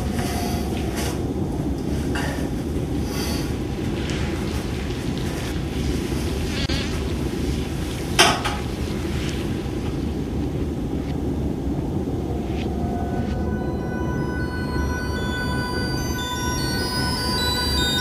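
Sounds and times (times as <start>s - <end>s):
low rumbling drone: 0.0s - 6.5s, 8.8s - 18.0s.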